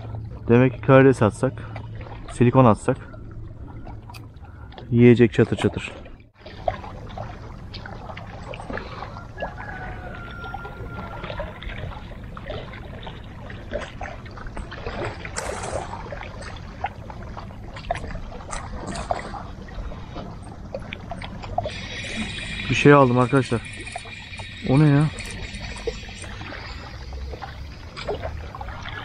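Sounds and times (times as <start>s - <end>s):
small waves lapping against rocks: 0.0s - 29.0s.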